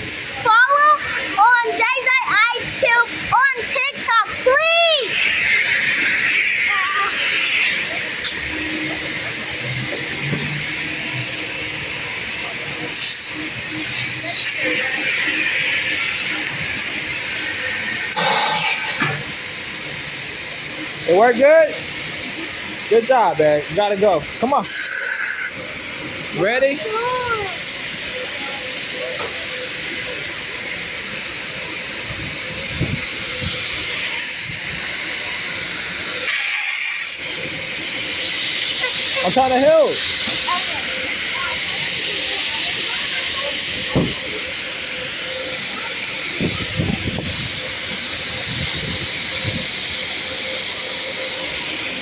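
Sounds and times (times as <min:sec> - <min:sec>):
car wash spray hissing: 0:00.0 - 0:52.0.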